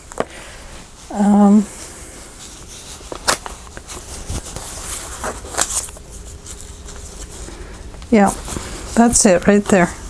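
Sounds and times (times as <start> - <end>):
fabric and paper rustling: 0.0 - 10.0.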